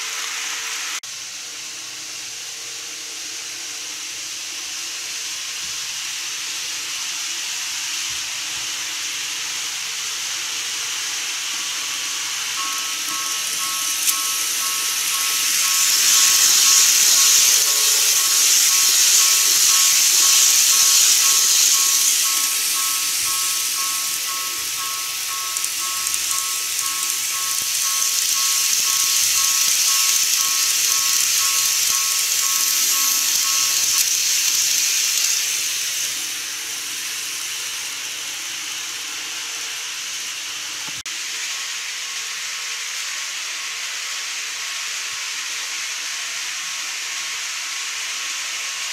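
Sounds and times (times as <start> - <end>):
model trains running on track: 0.0 - 48.9.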